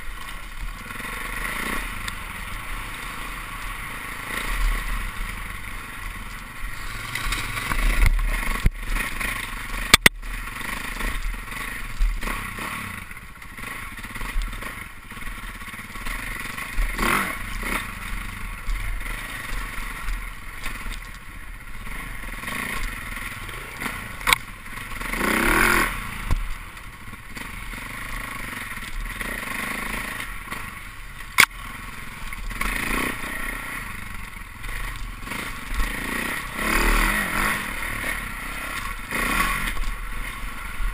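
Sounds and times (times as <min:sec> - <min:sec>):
bike rattling and scraping: 0:00.0 - 0:40.9
dirt bike engine revving: 0:00.0 - 0:40.9.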